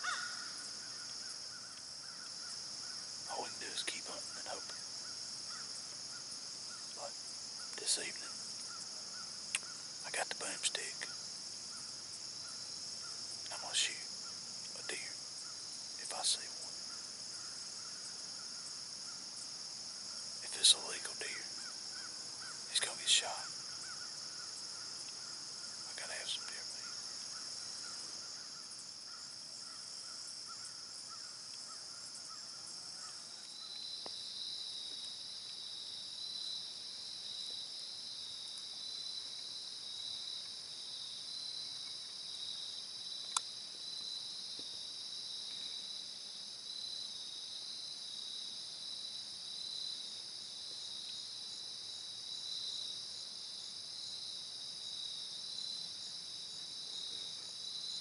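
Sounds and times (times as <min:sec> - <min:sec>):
cricket-like trills: 0:00.0 - 0:58.0.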